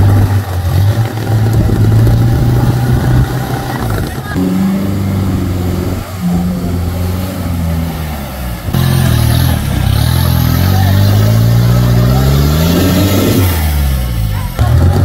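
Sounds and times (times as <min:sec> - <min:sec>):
jeep engine revving: 0:00.0 - 0:15.0.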